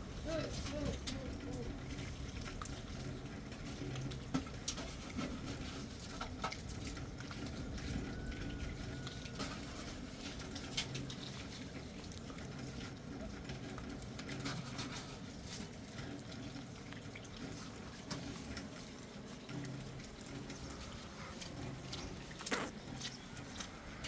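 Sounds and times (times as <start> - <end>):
water pattering: 0.0 - 24.0.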